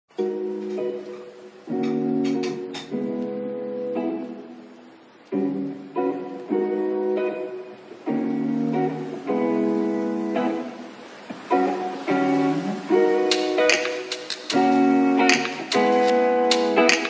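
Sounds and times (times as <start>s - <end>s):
acoustic guitar strumming chords: 0.1s - 4.7s, 5.3s - 17.0s.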